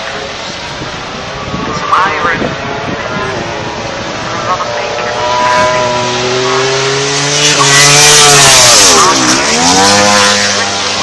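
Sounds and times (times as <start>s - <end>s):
racing motorcycle passing: 0.0s - 11.0s.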